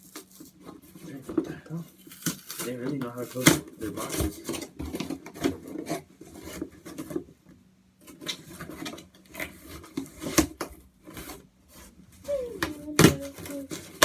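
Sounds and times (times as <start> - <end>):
cardboard and tape tearing: 0.0 - 7.2, 8.0 - 14.0.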